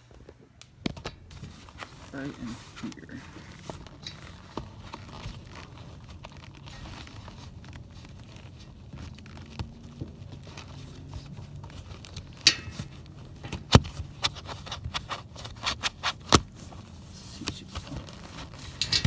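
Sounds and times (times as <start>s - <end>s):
scraping: 1.0s - 19.0s.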